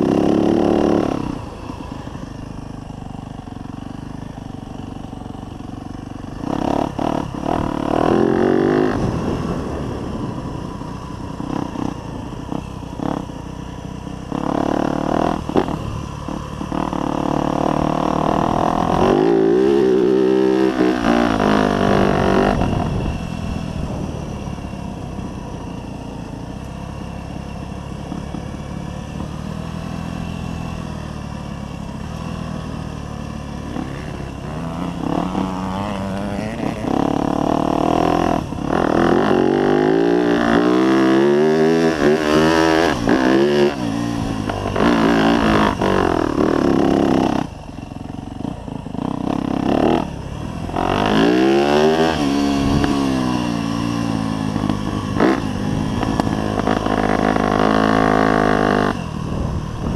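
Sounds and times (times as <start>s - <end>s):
dirt bike engine revving: 0.0s - 2.8s, 3.4s - 24.8s, 28.0s - 59.9s.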